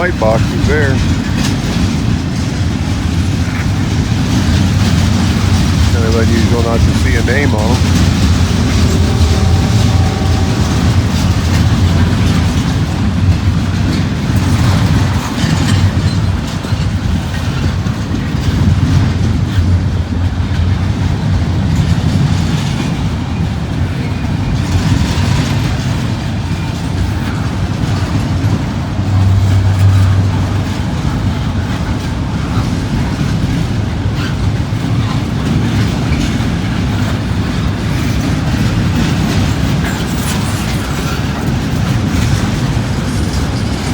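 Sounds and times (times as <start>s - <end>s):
train wheels rumbling on rails: 0.0s - 43.9s
wheels clicking over rail joints: 0.0s - 43.9s.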